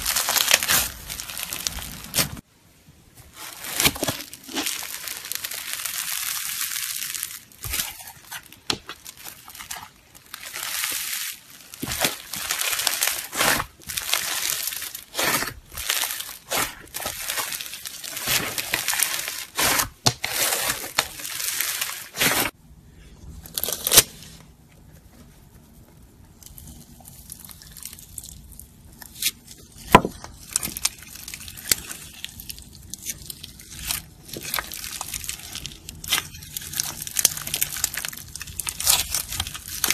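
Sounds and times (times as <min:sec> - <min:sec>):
slime crackling and tearing: 0:00.0 - 0:02.4, 0:03.3 - 0:22.6, 0:23.5 - 0:24.3, 0:26.4 - 0:39.9.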